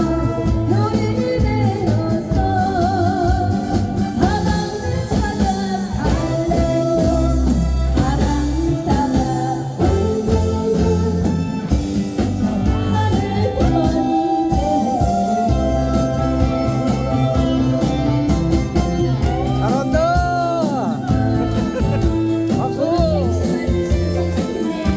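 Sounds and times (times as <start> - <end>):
band backing track: 0.0 - 24.9
person singing pop song: 0.0 - 24.9.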